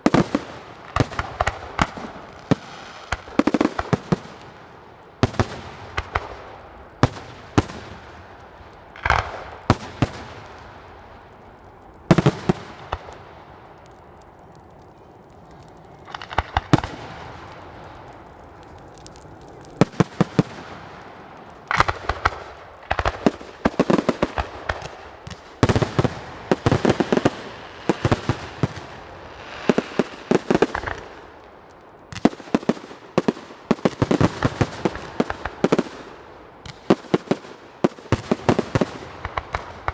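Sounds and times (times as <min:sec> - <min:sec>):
fireworks bangs: 0:00.0 - 0:31.4, 0:32.1 - 0:39.9.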